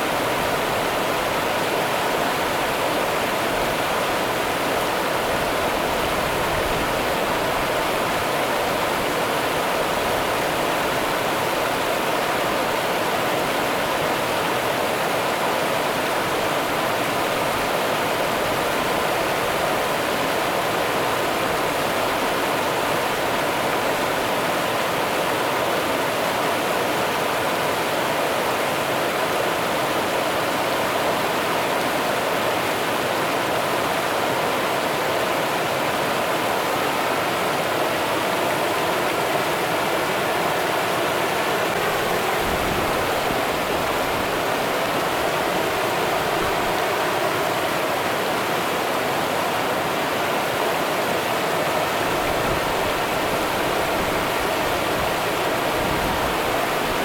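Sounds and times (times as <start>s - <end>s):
river water running over rocks: 0.0s - 57.0s.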